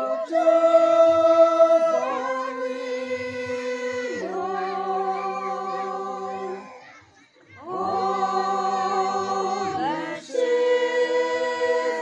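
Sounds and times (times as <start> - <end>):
group singing unaccompanied: 0.0 - 6.9, 7.6 - 12.0.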